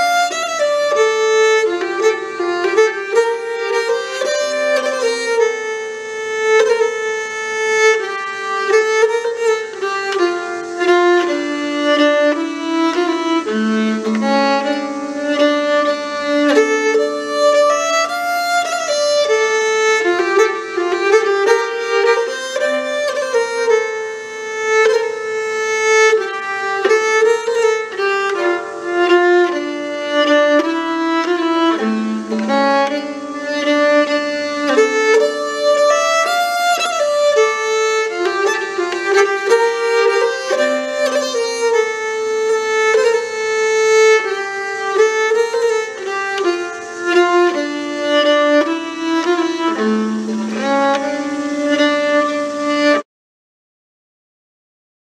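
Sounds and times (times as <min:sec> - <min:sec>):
bowed keyed fiddle folk melody: 0:00.0 - 0:53.1.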